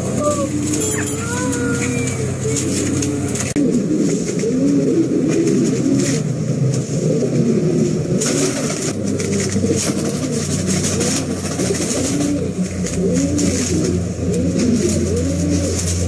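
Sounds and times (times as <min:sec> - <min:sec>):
pigeons cooing: 0:00.0 - 0:16.0
steady low hum: 0:00.0 - 0:16.0.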